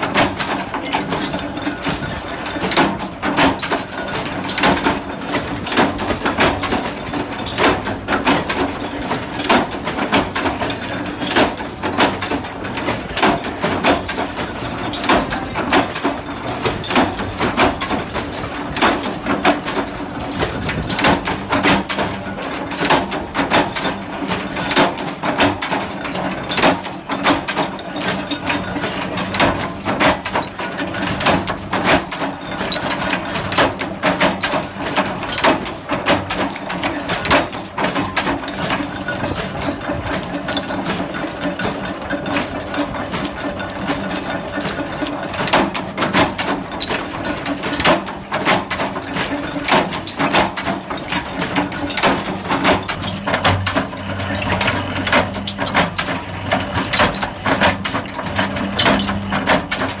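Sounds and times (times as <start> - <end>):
sharp metallic clanks: 0.0 - 60.0.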